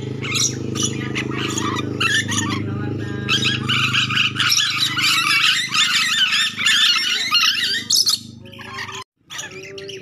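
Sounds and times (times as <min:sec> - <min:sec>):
lorikeets chattering and screeching: 0:00.0 - 0:10.0.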